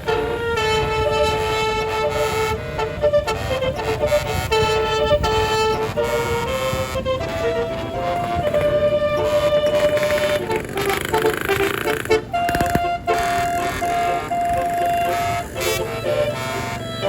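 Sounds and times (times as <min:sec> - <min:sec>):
low engine rumble: 0:00.0 - 0:17.0
truck air horn melody: 0:00.0 - 0:17.0.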